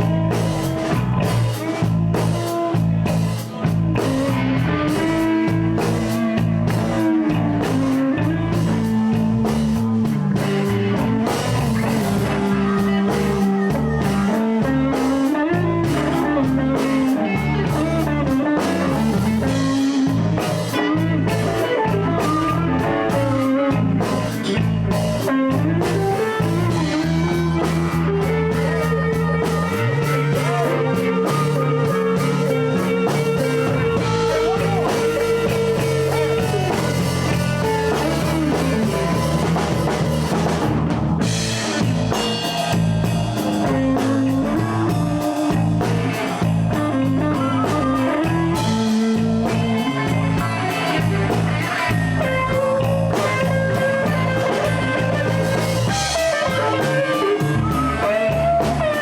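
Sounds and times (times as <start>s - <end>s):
blues band playing: 0.0s - 59.0s
held electric guitar lead note: 0.0s - 59.0s.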